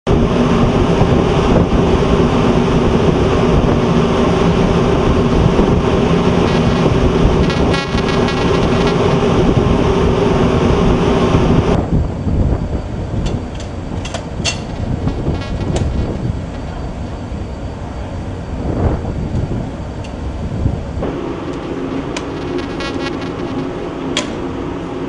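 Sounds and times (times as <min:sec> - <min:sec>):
ship machinery hum: 0:00.1 - 0:25.0.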